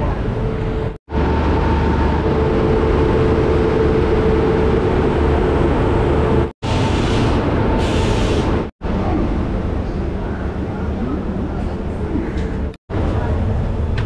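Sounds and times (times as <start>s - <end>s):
electric locomotive humming: 0.0s - 13.3s.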